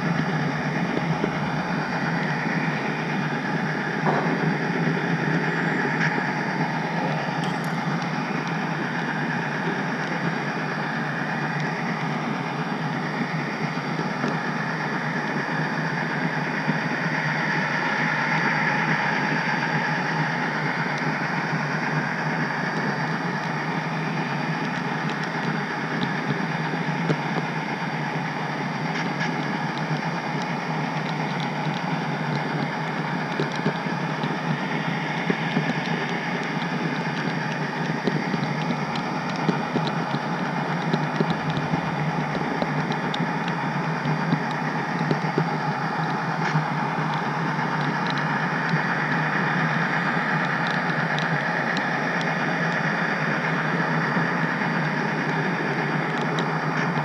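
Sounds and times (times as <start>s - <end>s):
model train whirring: 0.0s - 57.0s
wheels clicking on rails: 0.0s - 57.0s.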